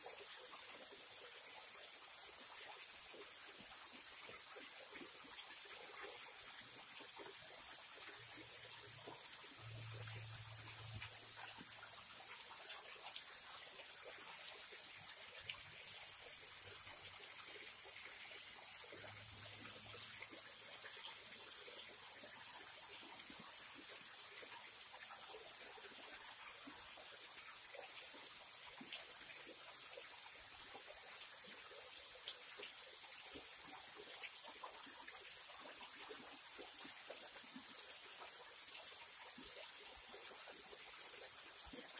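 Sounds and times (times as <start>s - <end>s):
waterfall trickling into pool: 0.0s - 41.9s
water drips: 1.8s - 41.9s.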